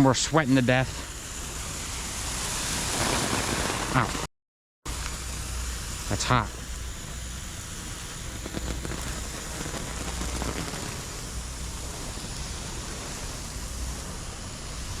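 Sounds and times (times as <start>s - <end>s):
sparklers fizzing hiss: 0.0s - 4.3s, 4.9s - 15.0s
faint crackles: 0.8s - 4.3s, 5.0s - 15.0s.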